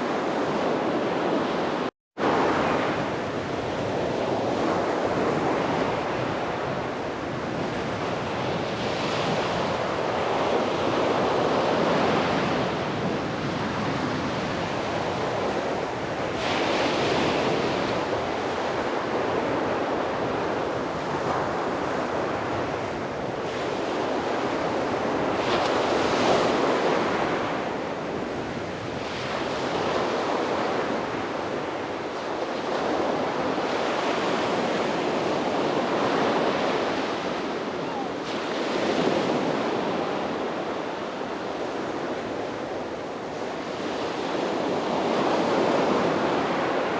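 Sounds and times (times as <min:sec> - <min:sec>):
sea waves breaking on beach: 0:00.0 - 0:46.9.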